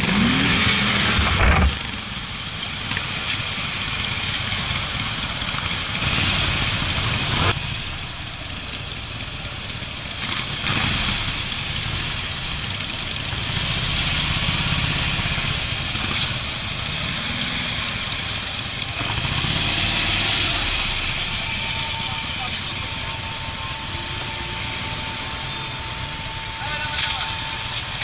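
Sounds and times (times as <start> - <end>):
motorcycle engine running: 0.0 - 28.0
other motorcycles rumbling: 0.0 - 28.0.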